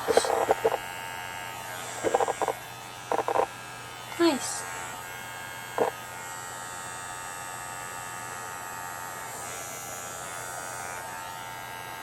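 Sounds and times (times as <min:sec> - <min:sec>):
diffuser whirring buzz: 0:00.0 - 0:12.0.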